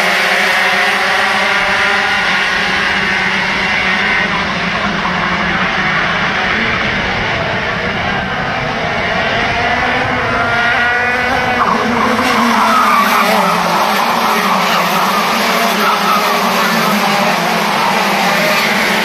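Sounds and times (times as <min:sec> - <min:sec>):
go-kart engines at high revs: 0:00.0 - 0:19.0.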